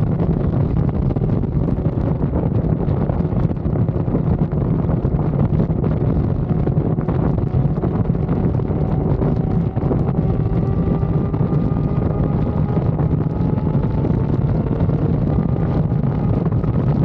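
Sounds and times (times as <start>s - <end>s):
motorcycle engine cruising: 0.0s - 17.0s
wind buffeting on microphone: 0.0s - 17.0s.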